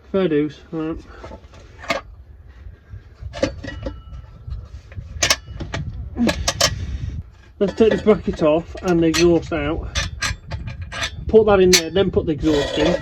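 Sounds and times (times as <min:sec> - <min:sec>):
metal exhaust pipes clanking: 0:00.9 - 0:13.0.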